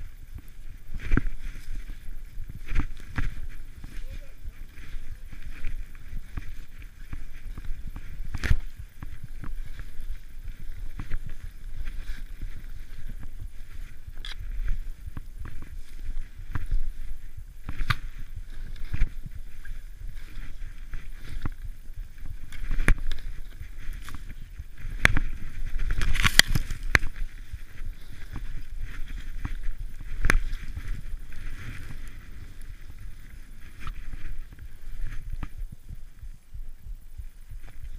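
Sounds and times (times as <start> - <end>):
rumble of wind and snow: 0.0 - 37.9.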